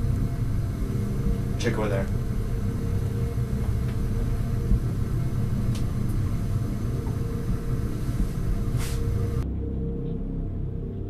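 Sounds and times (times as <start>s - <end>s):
faint steady hum: 0.0s - 11.0s
low rumbling drone: 0.0s - 11.0s.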